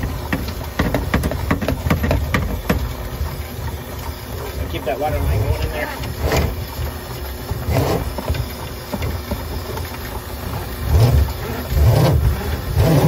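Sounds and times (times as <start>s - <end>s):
drain-cleaning machine running: 0.0s - 13.0s.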